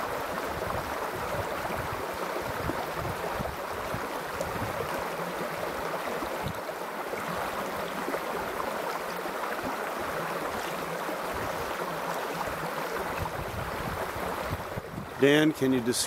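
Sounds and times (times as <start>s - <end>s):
creek water babbling over rocks: 0.0s - 16.0s.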